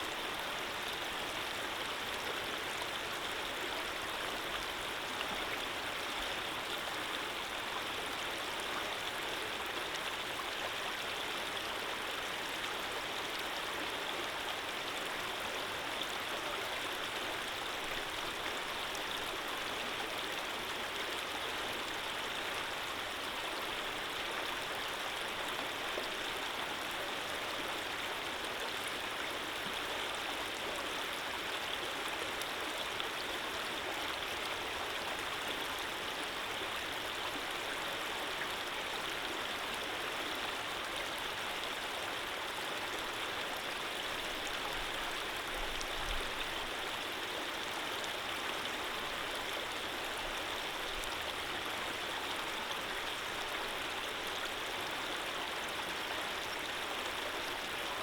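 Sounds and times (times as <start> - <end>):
gentle stream flowing: 0.0 - 58.0.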